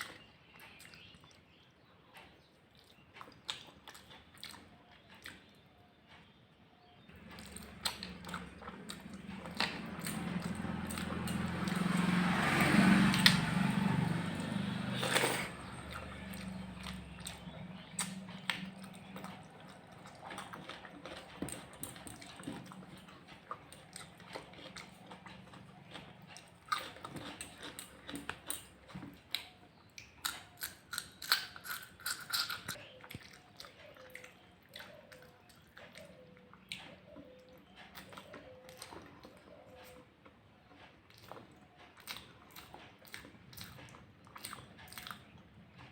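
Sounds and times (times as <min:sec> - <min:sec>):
person chewing and smacking: 0:00.0 - 0:01.6, 0:02.2 - 0:06.3, 0:07.1 - 0:45.9.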